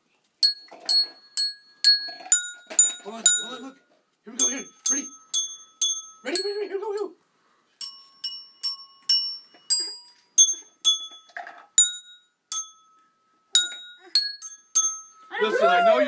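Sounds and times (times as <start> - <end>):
metal tube chimes ringing: 0.4 - 7.1, 7.8 - 15.6.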